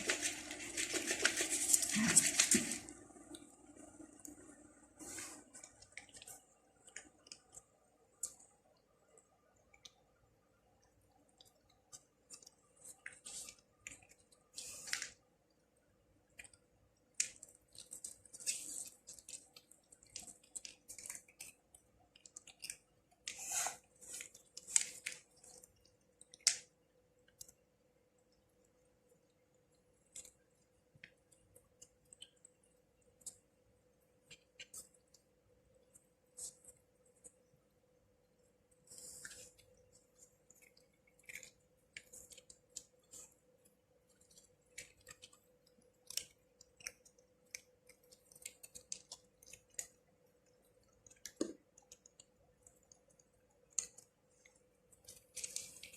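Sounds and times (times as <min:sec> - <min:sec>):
cat chewing and smacking: 0:00.0 - 0:55.9.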